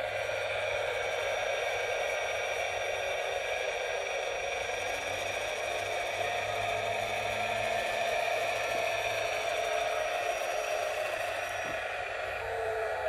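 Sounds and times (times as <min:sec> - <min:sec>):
model loader mechanical whir: 0:00.0 - 0:13.0.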